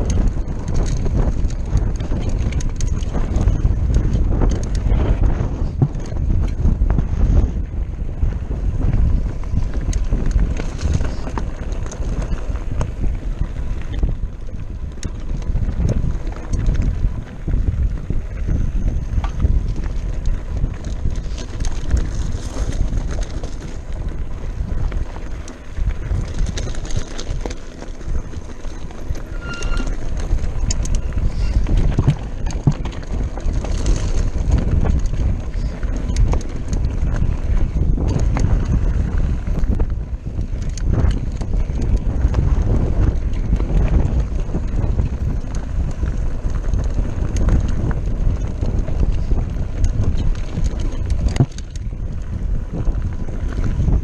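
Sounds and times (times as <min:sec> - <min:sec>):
bike rattling and knocking: 0:00.0 - 0:54.0
wind rumble on microphone: 0:00.0 - 0:54.0
tyres crunching over stones: 0:09.3 - 0:54.0.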